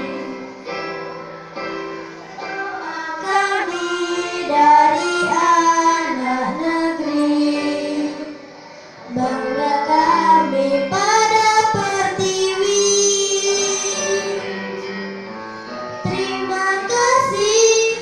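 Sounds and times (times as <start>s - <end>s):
instrumental accompaniment: 0.0s - 18.0s
girl singing into microphone: 2.4s - 14.9s, 16.0s - 18.0s.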